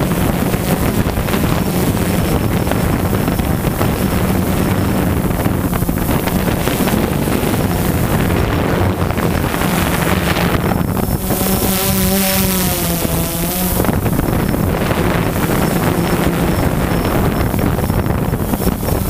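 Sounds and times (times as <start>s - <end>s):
drone propellers humming: 0.0s - 19.0s
high wavering whine: 0.0s - 19.0s
wind on microphone: 0.0s - 19.0s.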